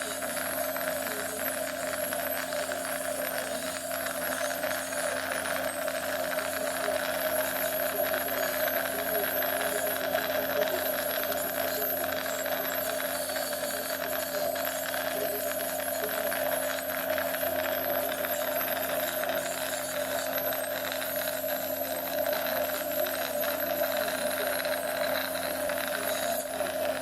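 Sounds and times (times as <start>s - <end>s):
dental equipment humming: 0.0s - 27.0s.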